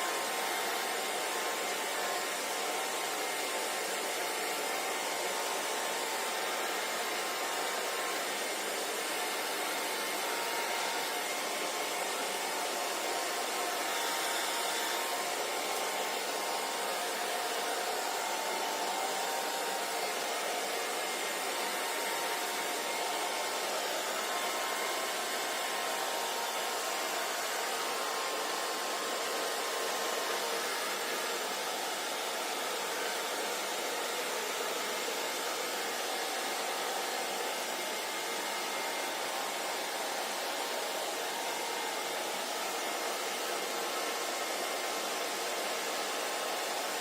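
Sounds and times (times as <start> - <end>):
hair dryer blowing: 0.0 - 47.0.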